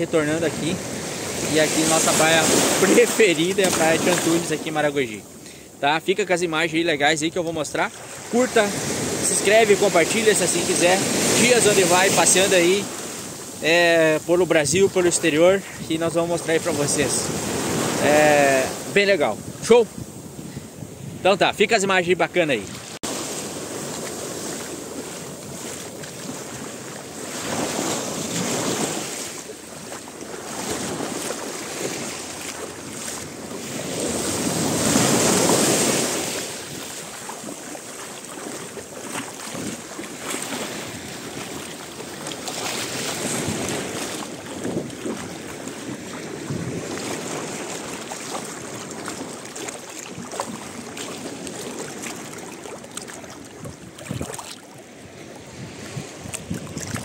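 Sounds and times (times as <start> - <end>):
small waves washing on sand: 0.0 - 57.0.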